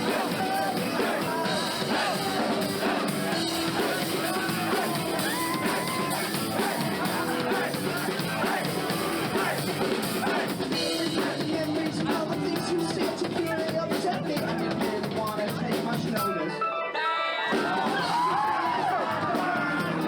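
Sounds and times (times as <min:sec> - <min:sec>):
bass: 0:00.0 - 0:16.4, 0:17.8 - 0:20.0
drum kit: 0:00.0 - 0:16.4, 0:17.5 - 0:20.0
person singing: 0:00.0 - 0:20.0.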